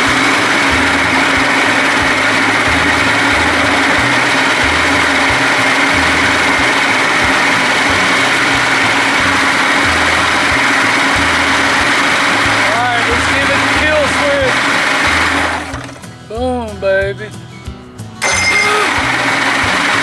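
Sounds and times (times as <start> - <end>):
outboard motor running: 0.0 - 17.2, 18.2 - 20.0.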